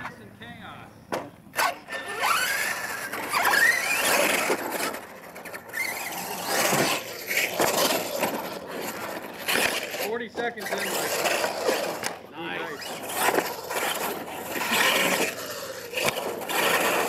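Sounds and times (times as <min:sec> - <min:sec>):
tyres churning loose dirt: 0:01.1 - 0:17.0
electric motor whining: 0:01.5 - 0:17.0.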